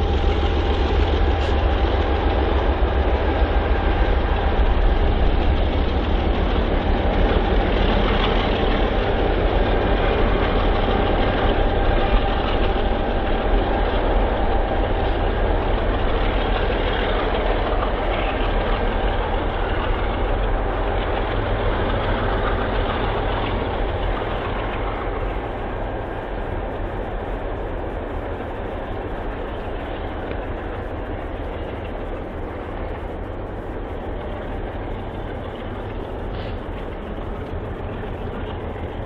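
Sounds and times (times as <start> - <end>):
locomotive engines running: 0.0 - 39.0
rumble of rolling train cars: 0.0 - 39.0.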